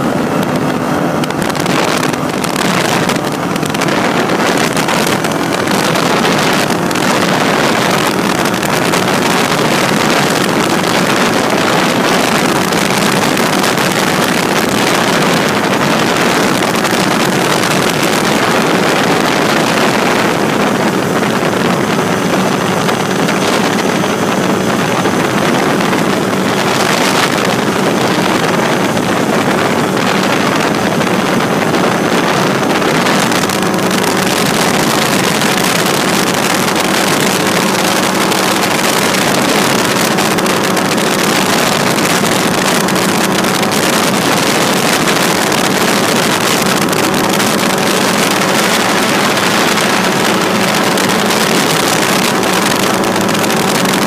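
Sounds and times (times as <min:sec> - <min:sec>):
light aircraft engine running: 0:00.0 - 0:54.0
wind rushing over microphone: 0:00.0 - 0:54.0.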